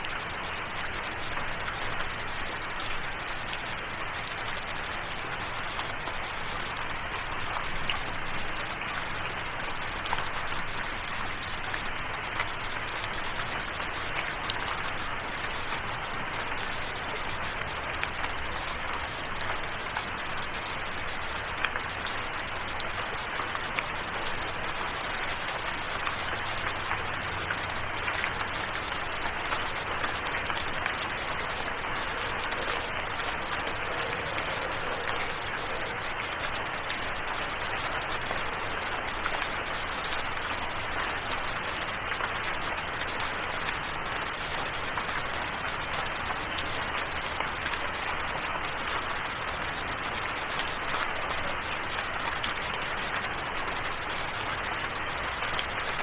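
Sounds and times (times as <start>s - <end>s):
raindrops ticking: 0.0s - 56.0s
steady rain falling: 0.0s - 56.0s.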